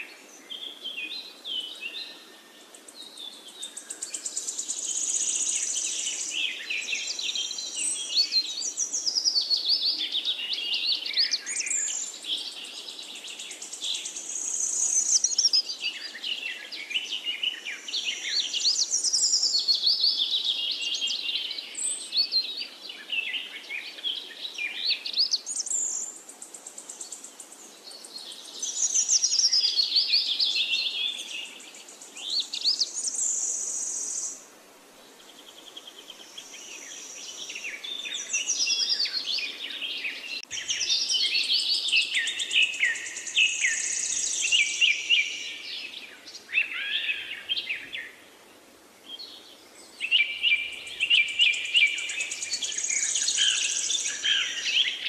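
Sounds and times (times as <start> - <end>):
small birds chirping and singing: 0.0 - 55.0.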